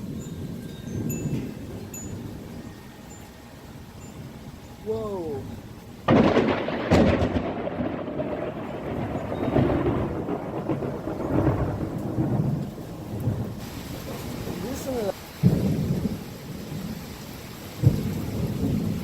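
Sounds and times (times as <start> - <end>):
thunder rumbling: 0.0 - 3.0, 3.8 - 19.0
rain falling: 0.0 - 19.0.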